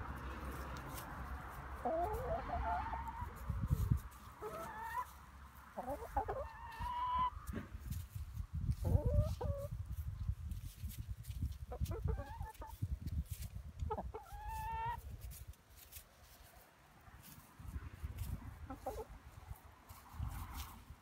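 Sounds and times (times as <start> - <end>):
hens clucking and trilling: 0.0 - 16.6, 17.2 - 21.0.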